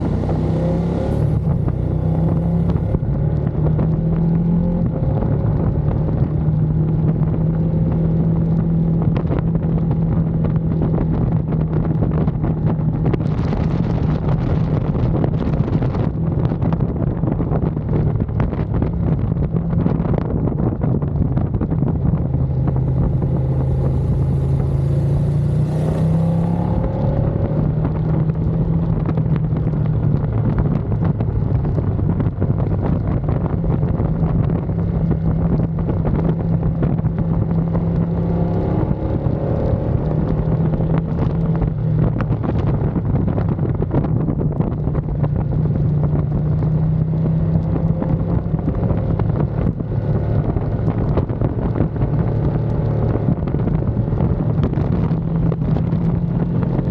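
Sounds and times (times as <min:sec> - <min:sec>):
motorcycle engine running: 0:00.0 - 0:56.9
wind rush on microphone: 0:00.0 - 0:56.9.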